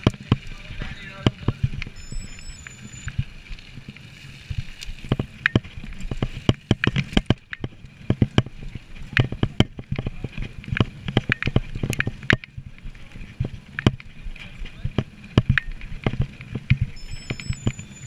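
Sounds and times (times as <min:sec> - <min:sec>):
bike knocking and rattling: 0:00.0 - 0:18.0
tyres rumbling: 0:00.0 - 0:18.0
wind: 0:00.0 - 0:18.0.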